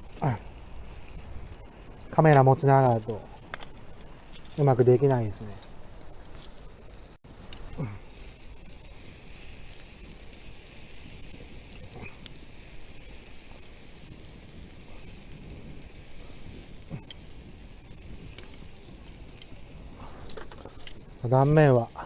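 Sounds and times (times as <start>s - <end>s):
steak sizzling on a grill: 0.0s - 22.0s.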